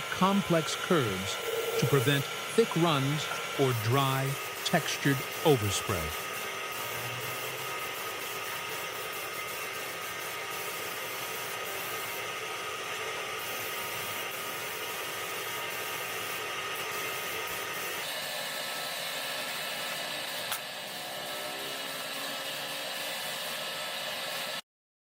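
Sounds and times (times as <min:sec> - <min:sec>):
spray gun air hiss: 0:00.0 - 0:24.6.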